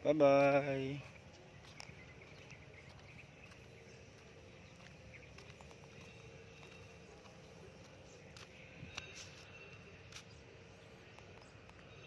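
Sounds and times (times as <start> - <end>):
low steady hum: 0.8 - 12.0.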